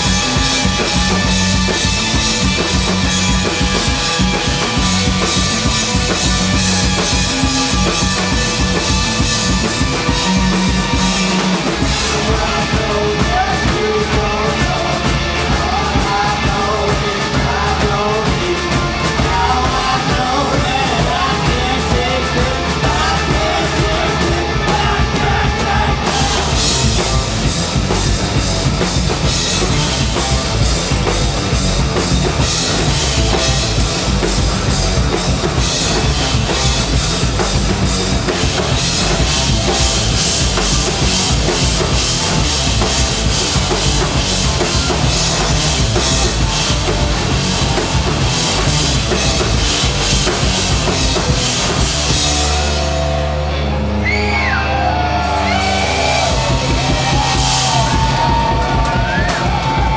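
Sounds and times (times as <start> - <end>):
pounding bass drum: 0.0 - 53.1, 55.2 - 59.9
rock band playing: 0.0 - 59.9.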